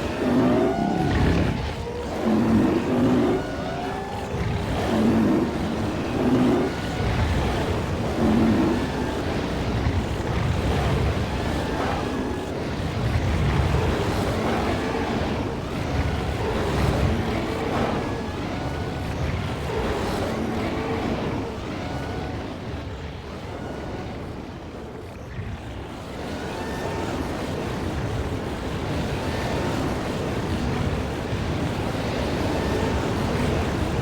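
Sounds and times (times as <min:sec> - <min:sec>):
rumble of animals running: 0:00.0 - 0:34.0.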